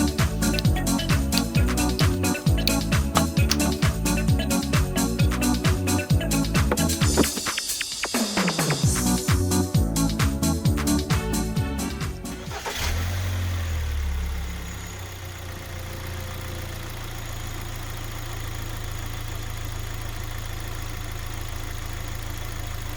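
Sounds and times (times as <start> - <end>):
car engine starting and idling: 0.0 - 8.3, 12.2 - 22.9.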